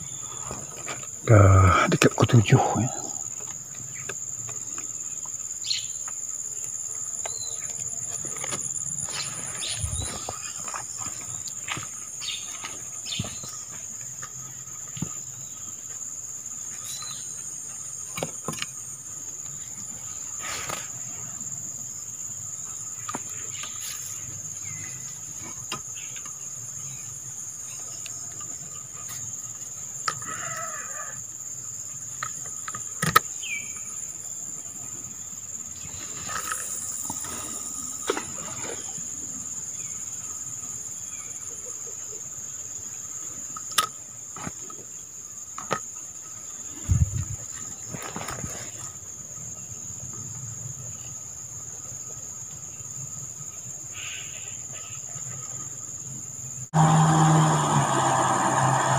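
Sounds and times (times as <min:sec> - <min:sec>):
insect chorus drone: 0:00.0 - 0:58.9.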